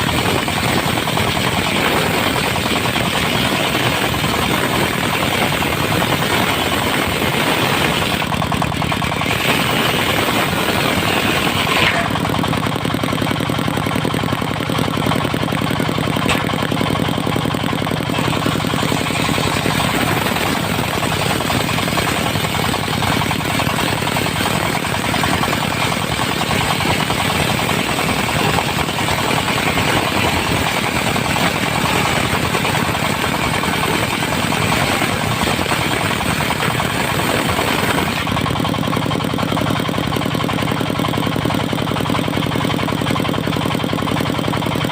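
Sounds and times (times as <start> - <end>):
diesel engine driving sawmill: 0.0 - 44.9.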